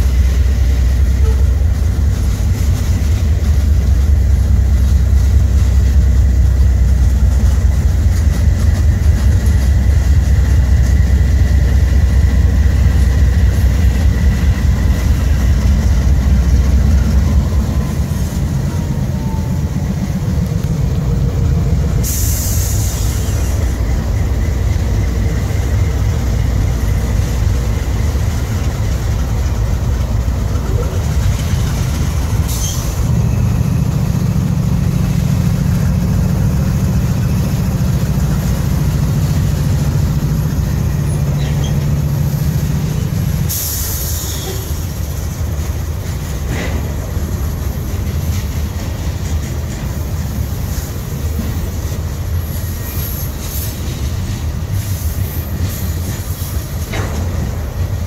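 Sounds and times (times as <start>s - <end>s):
diesel locomotive drone: 0.0s - 58.0s
freight train wheels rumbling: 0.0s - 58.0s.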